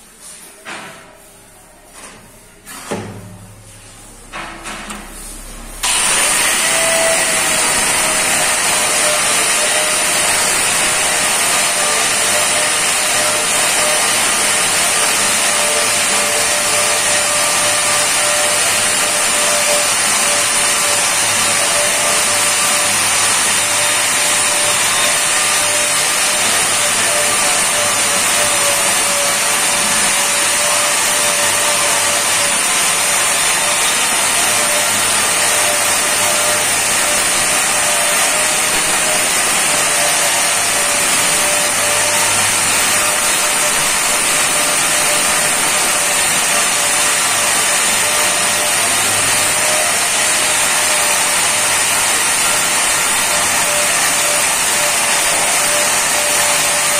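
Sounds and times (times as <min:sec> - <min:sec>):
angle grinder grinding stone: 0:05.8 - 0:56.9.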